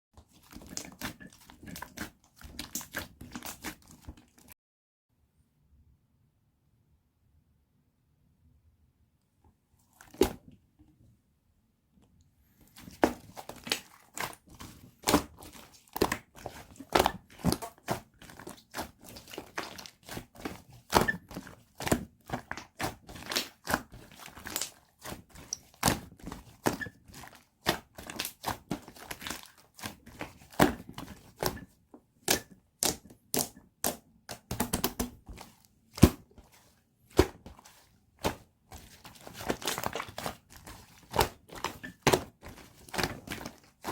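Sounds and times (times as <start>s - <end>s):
slime kneaded by hand: 0.2s - 4.5s, 12.5s - 43.9s.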